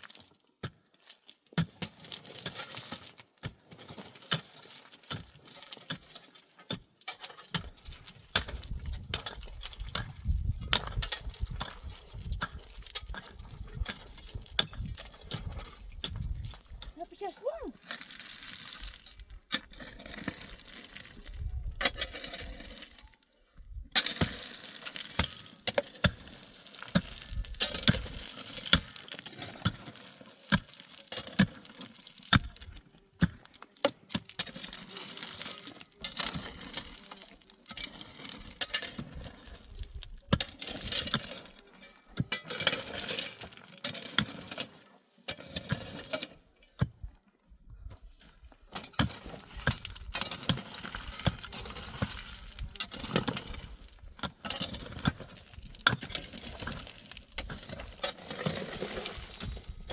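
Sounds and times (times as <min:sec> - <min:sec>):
stones knocking and clinking: 0:00.0 - 0:17.0, 0:24.0 - 0:47.1, 0:48.7 - 0:59.9
rubble scraping and shifting: 0:00.0 - 0:59.9.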